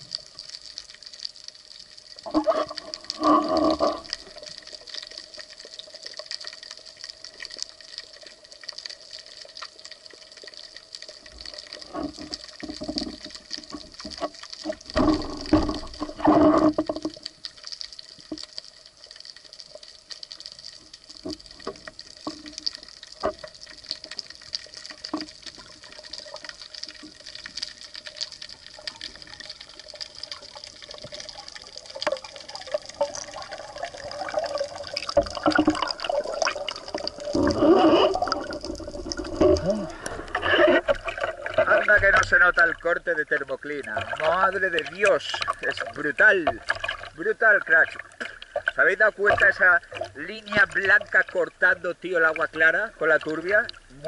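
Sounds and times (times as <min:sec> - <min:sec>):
rushing water: 0:01.8 - 0:19.8, 0:20.4 - 0:54.0.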